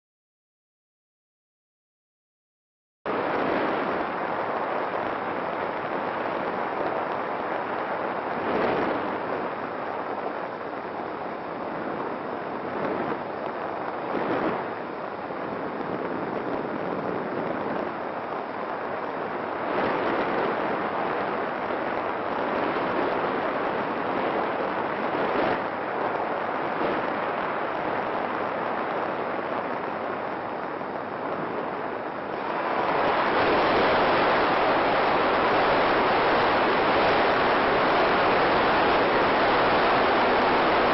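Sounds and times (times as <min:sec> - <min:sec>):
wind on microphone: 0:03.1 - 0:40.9.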